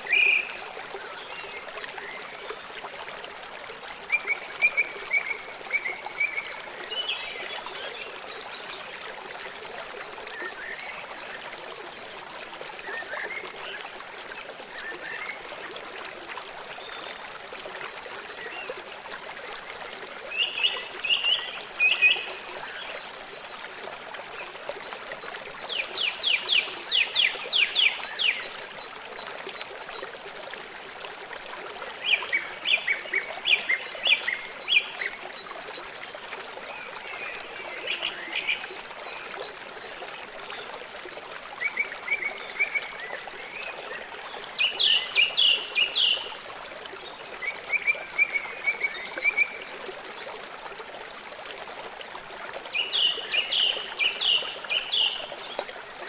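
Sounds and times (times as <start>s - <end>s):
running stream: 0.0s - 56.0s.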